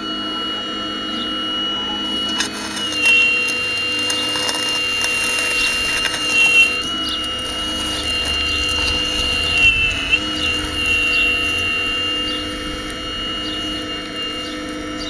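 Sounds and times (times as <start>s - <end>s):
toy excavator motor whining: 0.0s - 15.0s.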